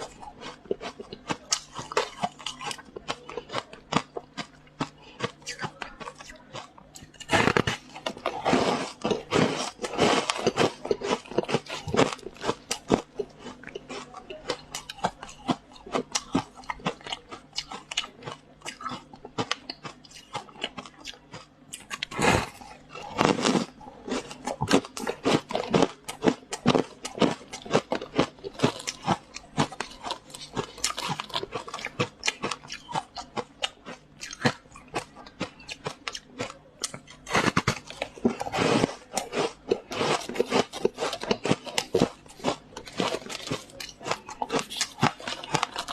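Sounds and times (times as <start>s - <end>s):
crunchy chewing of ice: 0.0s - 45.9s.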